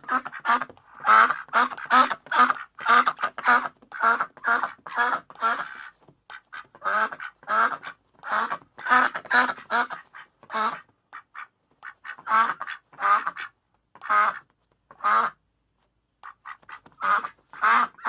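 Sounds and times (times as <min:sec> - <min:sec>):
duck quacking: 0:00.0 - 0:15.4, 0:16.2 - 0:18.0.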